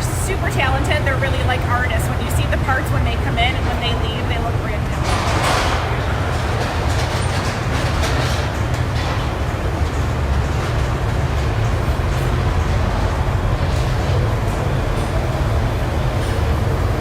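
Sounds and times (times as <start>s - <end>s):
low factory rumble: 0.0s - 17.0s.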